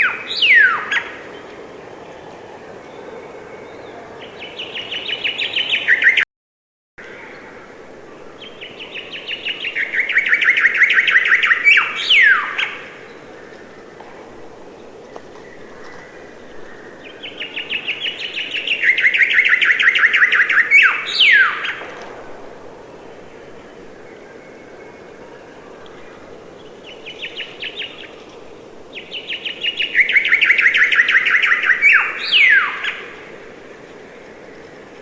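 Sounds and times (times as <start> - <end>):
songbird singing: 0.0 - 6.3, 7.0 - 35.0.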